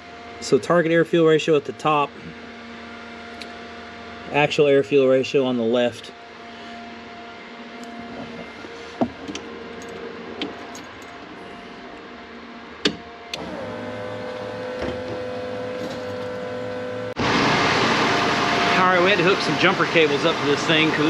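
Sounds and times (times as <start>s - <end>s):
steady electric whine: 0.0s - 21.0s.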